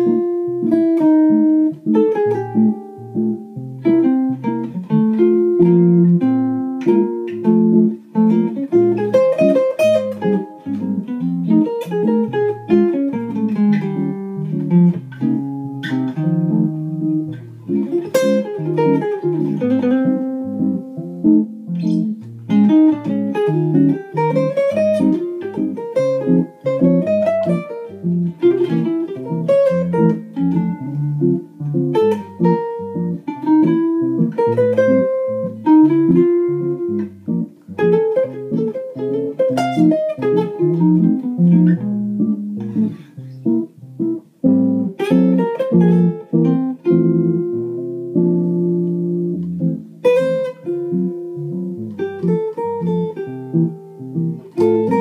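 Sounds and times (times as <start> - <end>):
archtop jazz guitar played solo: 0.0 - 55.0.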